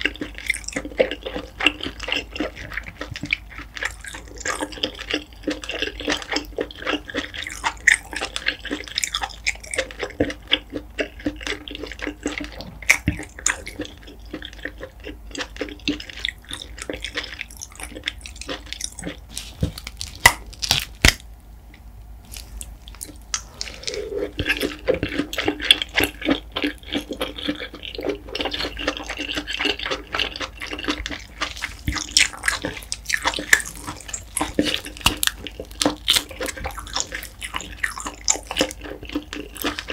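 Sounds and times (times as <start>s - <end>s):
wet chewing and mouth sounds: 0.0s - 21.2s, 21.8s - 39.9s.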